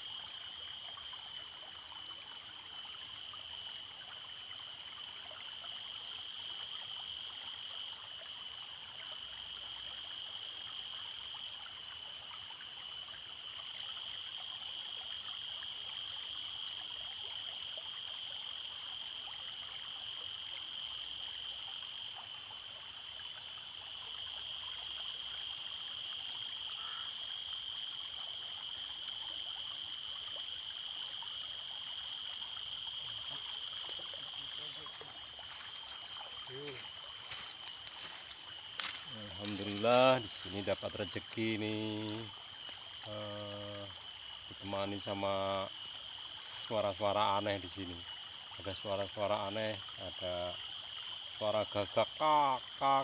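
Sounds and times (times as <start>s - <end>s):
flowing stream water: 0.0s - 53.0s
frogs and insects calling: 0.0s - 53.0s.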